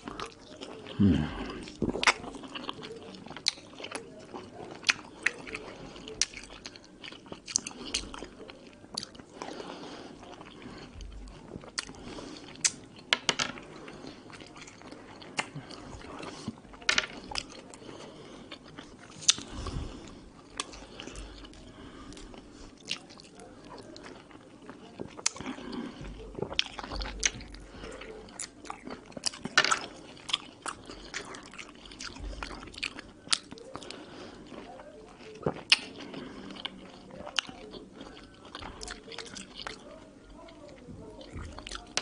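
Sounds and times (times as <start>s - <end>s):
biting and chewing: 0.0s - 42.0s.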